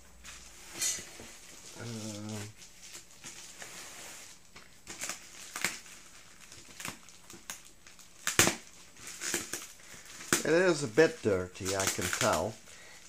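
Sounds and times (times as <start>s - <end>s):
bubble wrap crinkling: 0.1s - 13.0s.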